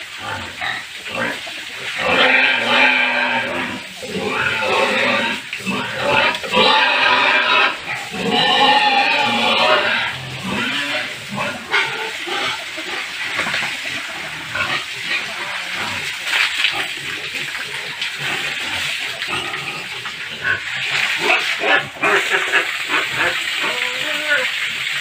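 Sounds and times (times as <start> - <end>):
hose spraying water splashing: 0.0 - 25.0
pigs grunting: 0.0 - 25.0.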